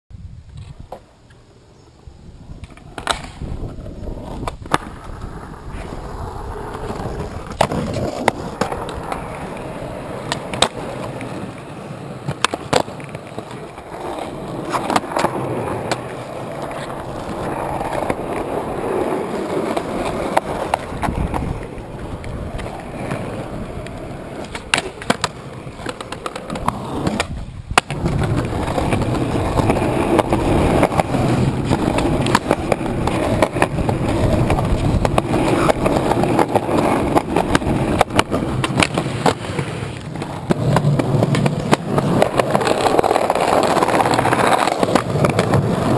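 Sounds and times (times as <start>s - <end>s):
skateboard wheels on concrete: 0.1s - 45.9s
skateboard clacks: 2.5s - 45.9s.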